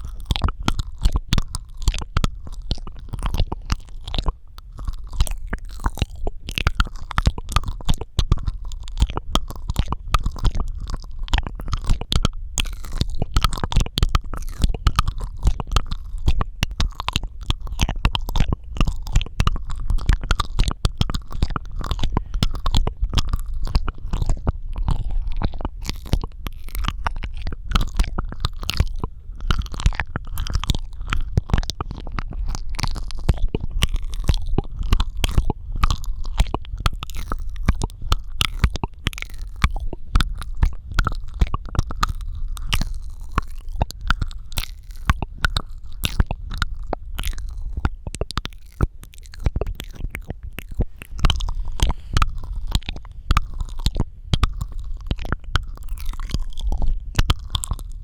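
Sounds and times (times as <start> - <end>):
steady low rumble: 0.0 - 58.0
wet mouth clicks and smacks: 0.0 - 58.0.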